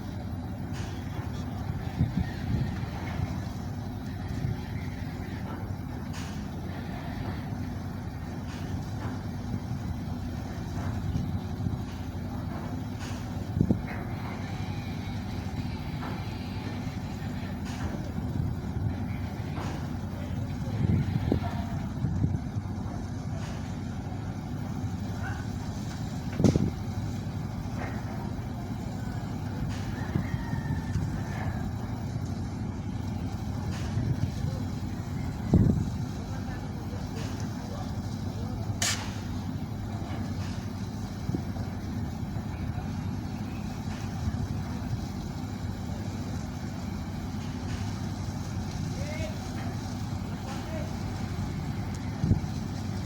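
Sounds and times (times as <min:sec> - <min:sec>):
low engine rumble: 0:00.0 - 0:53.0.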